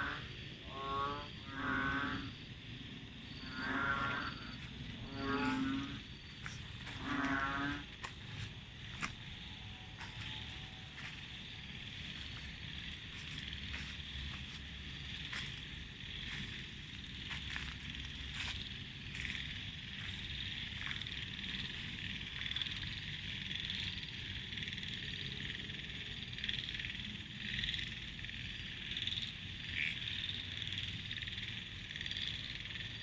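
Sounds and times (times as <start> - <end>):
frogs croaking in chorus: 0.0 - 33.0
high pulsing insect trill: 0.0 - 33.0.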